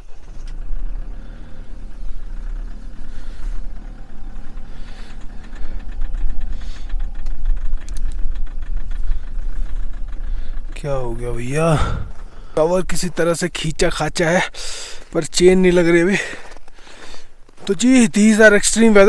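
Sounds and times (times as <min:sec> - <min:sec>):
diesel engine running rough: 0:00.0 - 0:19.0
engine clatter: 0:00.0 - 0:19.0.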